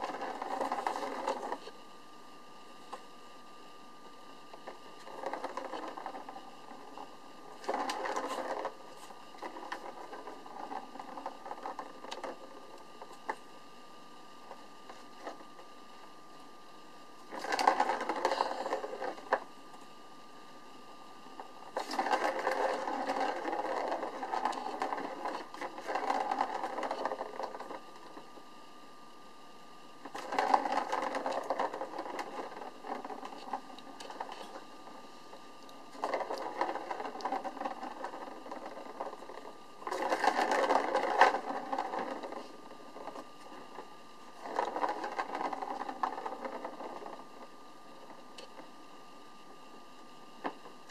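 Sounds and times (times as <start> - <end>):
ball rolling on plastic track: 0.0 - 1.9, 2.6 - 50.9.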